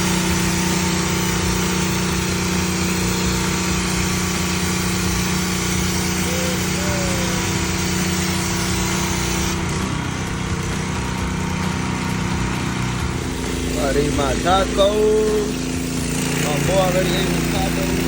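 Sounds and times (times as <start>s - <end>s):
high-pressure water spray hiss: 0.0s - 18.0s
pressure washer engine running: 0.0s - 18.0s.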